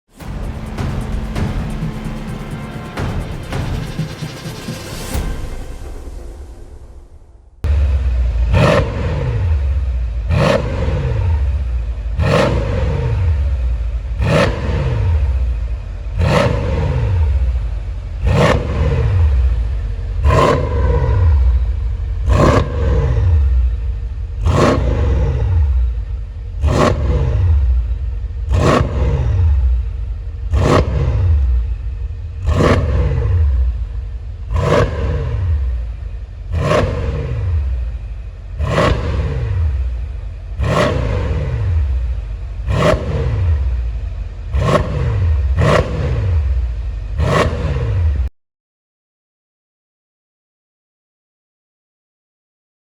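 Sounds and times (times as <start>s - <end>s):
car engine revving: 0.0s - 48.3s.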